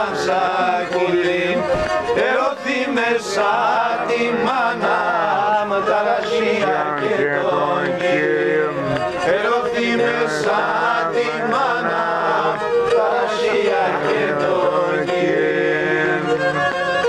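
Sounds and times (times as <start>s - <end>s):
men singing a slow folk song: 0.0s - 17.0s.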